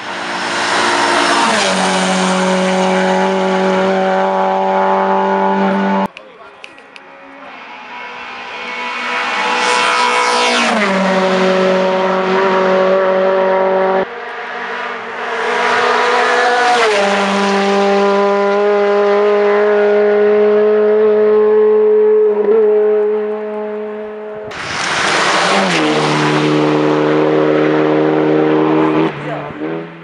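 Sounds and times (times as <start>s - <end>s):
race cars passing at speed: 0.0s - 6.1s, 6.7s - 30.0s.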